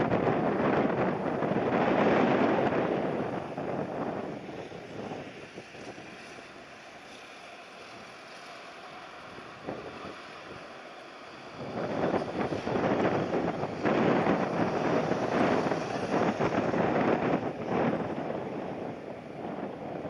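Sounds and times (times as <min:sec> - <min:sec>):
gusty wind on microphone: 0:00.0 - 0:20.0.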